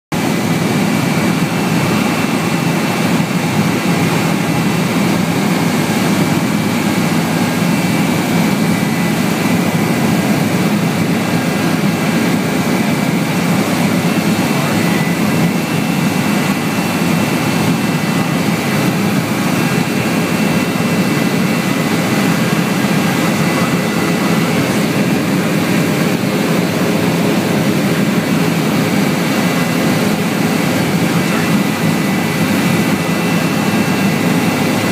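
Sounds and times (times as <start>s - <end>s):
helicopter engine and rotor drone: 0.1s - 34.9s.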